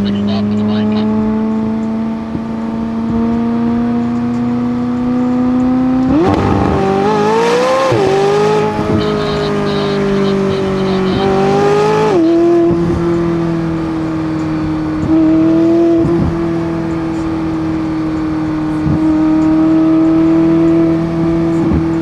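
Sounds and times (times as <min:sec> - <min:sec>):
car engine running: 0:01.4 - 0:22.0.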